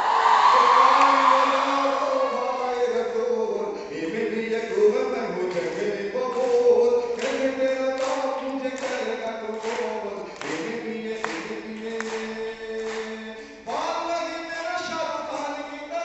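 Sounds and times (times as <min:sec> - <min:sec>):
man singing into a microphone: 0:00.5 - 0:16.0.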